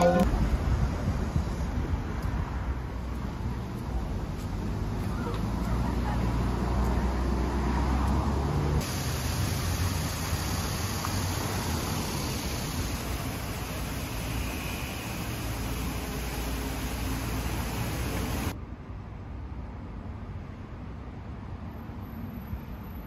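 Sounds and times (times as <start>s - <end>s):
hissy traffic noise: 0.0s - 18.6s
cars passing with low rumble: 0.0s - 23.0s.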